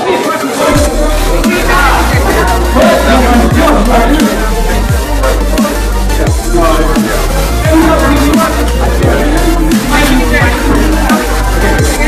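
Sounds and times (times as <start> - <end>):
electronic dance music: 0.0 - 12.0
sliding bass note: 0.7 - 12.0.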